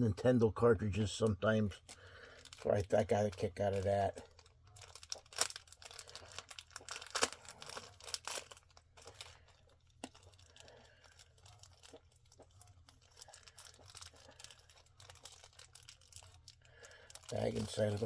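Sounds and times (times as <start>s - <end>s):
plastic bags crinkling and tearing: 1.7s - 18.0s.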